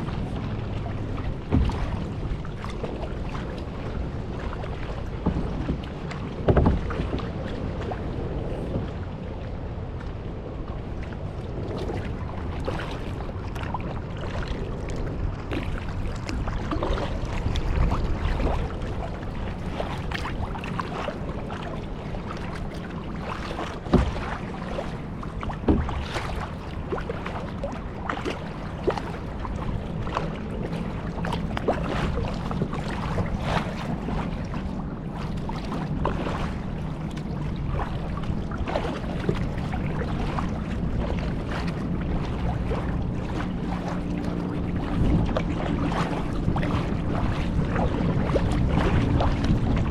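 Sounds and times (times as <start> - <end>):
paddle splashing water: 0.0 - 49.9.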